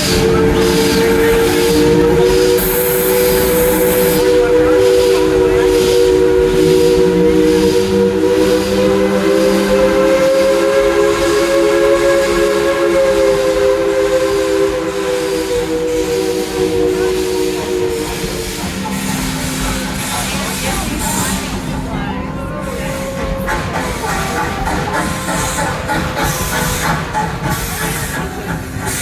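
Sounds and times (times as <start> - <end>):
steam hiss: 0.0 - 21.9, 22.5 - 29.0
regular pulsing: 0.0 - 29.0
steam train whistle chord: 0.0 - 29.0.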